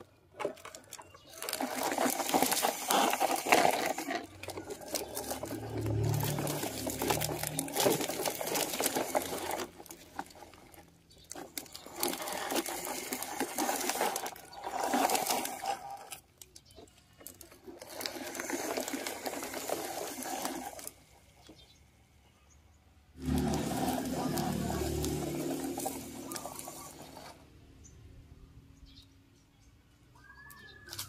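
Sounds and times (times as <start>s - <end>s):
toy truck wheels scraping dirt: 0.0s - 21.9s, 23.1s - 28.3s, 30.4s - 31.0s.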